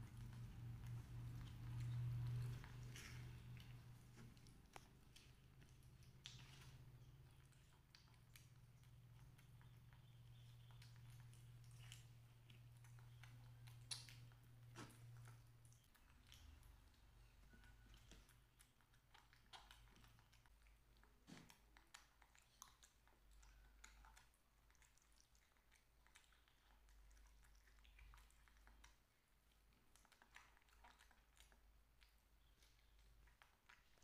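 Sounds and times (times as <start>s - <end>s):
low steady hum: 0.0s - 34.0s
soft chewing: 0.0s - 34.0s.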